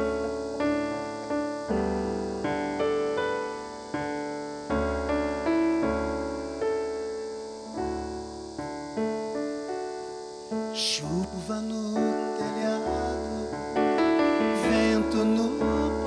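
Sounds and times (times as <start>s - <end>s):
piano chords ringing: 0.0s - 16.0s.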